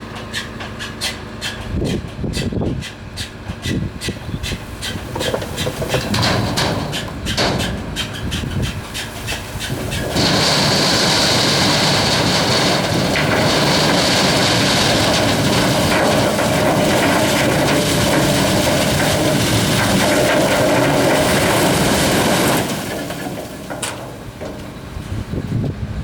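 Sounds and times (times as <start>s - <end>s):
tractor engine revving: 3.9s - 26.0s.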